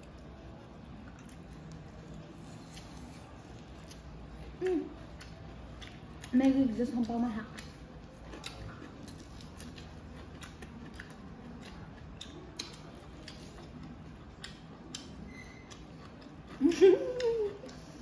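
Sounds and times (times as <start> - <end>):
chewing and crunching lettuce: 0.0 - 18.0.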